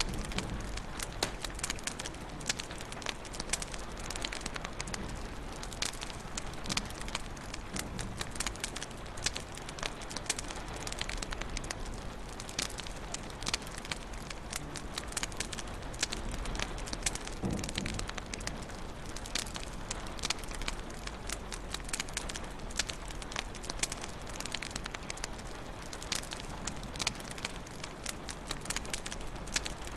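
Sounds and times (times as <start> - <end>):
wood fire crackling: 0.0 - 29.9.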